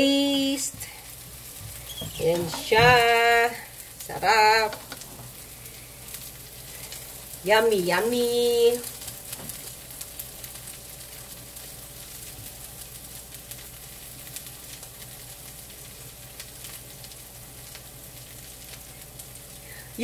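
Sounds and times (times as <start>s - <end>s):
pancake sizzling in a pan: 0.0s - 20.0s.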